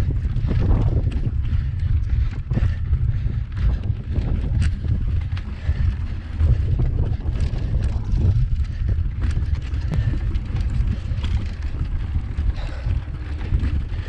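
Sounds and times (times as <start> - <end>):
bicycle rattling on cobbles: 0.0 - 14.0
wind buffeting microphone: 0.0 - 14.0.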